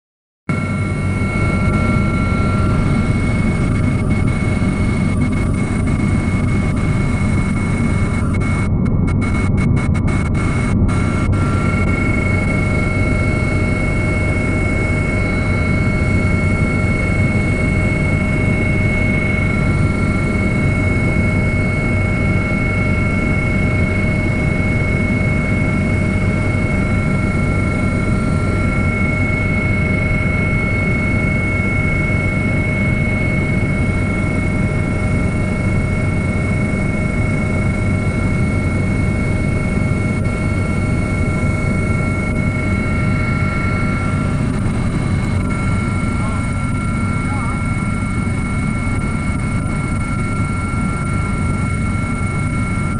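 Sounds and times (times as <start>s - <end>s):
helicopter rumble and whine: 0.5s - 52.9s.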